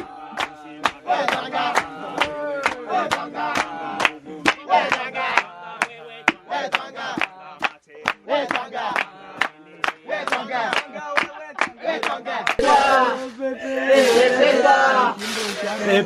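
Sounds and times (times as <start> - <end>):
group chanting and singing: 0.0 - 16.0.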